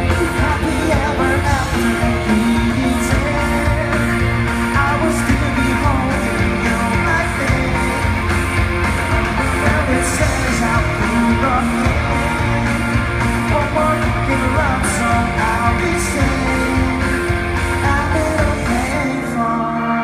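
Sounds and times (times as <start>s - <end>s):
electric guitar: 0.0s - 20.0s
live rock band: 0.0s - 20.0s
man singing lead vocal: 0.0s - 20.0s.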